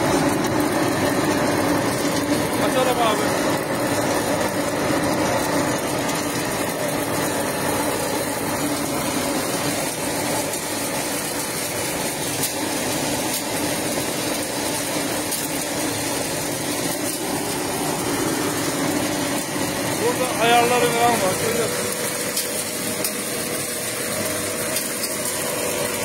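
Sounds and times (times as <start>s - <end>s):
machine motor hum: 0.0s - 26.0s.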